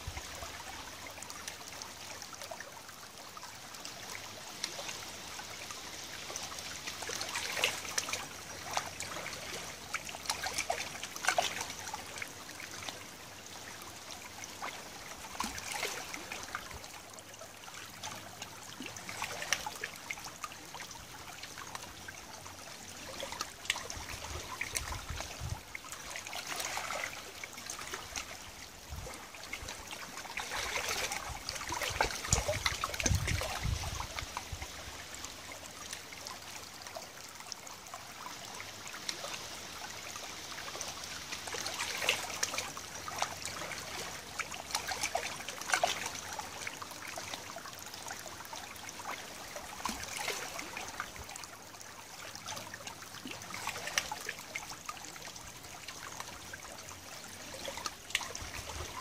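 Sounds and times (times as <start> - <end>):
river water trickling over gravel: 0.0 - 59.0
water drips and splashes: 0.0 - 59.0.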